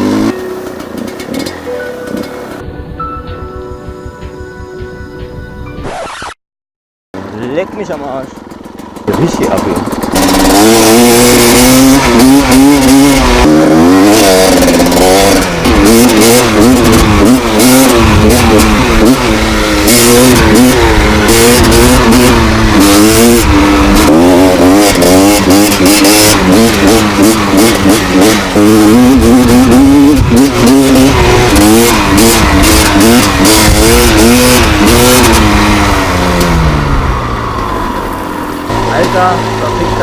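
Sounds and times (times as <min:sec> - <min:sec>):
motorcycle engine revving: 0:00.0 - 0:02.3, 0:07.2 - 0:40.0.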